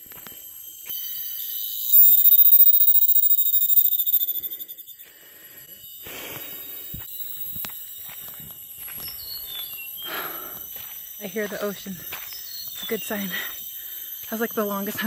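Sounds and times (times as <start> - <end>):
cicadas singing: 0.0 - 15.0.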